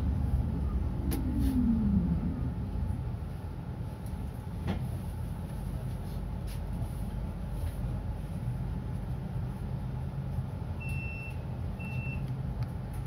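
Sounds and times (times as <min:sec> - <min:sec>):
tram rumbling: 0:00.0 - 0:13.0.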